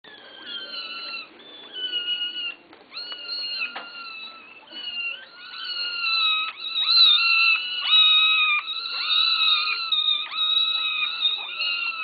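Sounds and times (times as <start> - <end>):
kittens meowing: 0.1 - 12.0.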